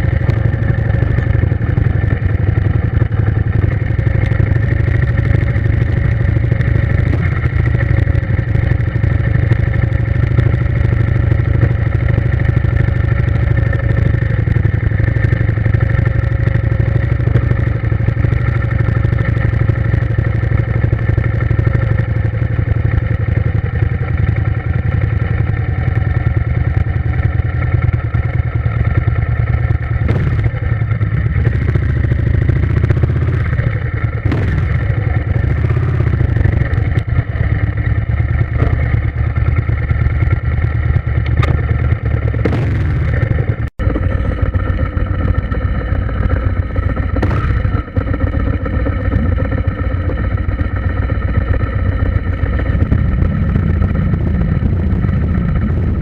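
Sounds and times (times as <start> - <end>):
motor droning: 0.0 - 56.0.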